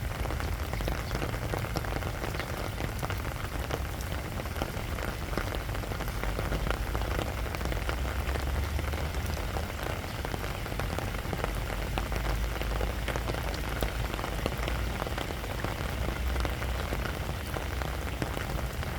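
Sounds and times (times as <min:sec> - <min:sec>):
rain falling on sand: 0:00.0 - 0:18.9.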